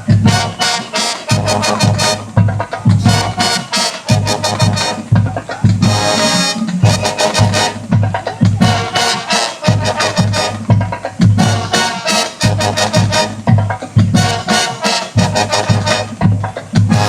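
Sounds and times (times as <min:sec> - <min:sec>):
brass chords: 0:00.0 - 0:17.0
marching band playing: 0:00.0 - 0:17.0.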